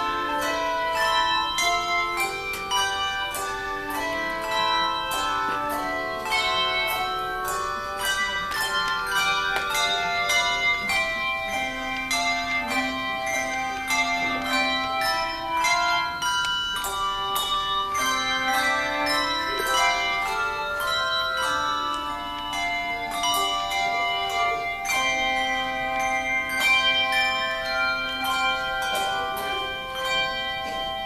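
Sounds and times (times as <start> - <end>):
handbells ringing: 0.0 - 31.0.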